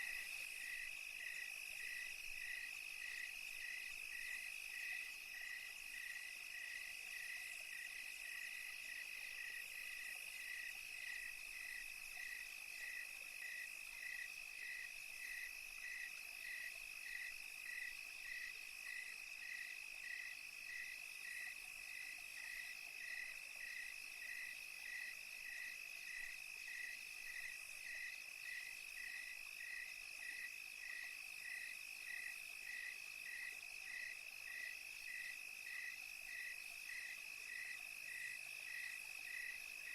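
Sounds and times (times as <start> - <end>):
cricket chirping in pulses: 0.0 - 39.9.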